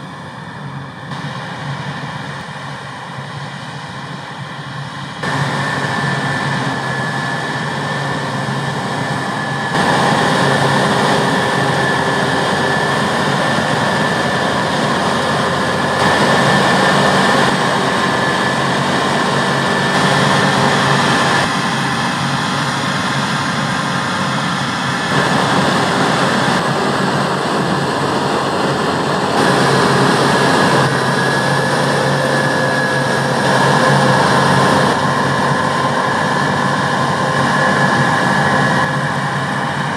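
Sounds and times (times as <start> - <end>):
combine harvester engine drone: 0.0 - 39.9
high mechanical whine: 0.0 - 39.9.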